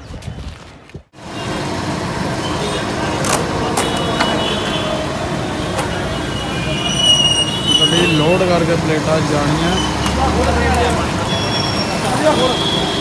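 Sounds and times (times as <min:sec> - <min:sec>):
vehicle road noise: 0:00.2 - 0:13.0.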